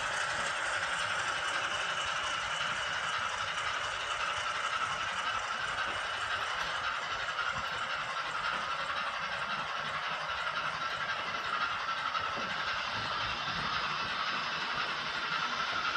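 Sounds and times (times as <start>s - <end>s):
model train hissing: 0.0s - 15.9s.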